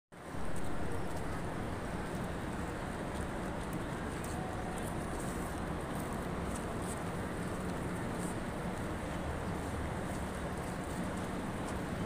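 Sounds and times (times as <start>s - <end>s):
city street rumble and hiss: 0.1s - 12.0s.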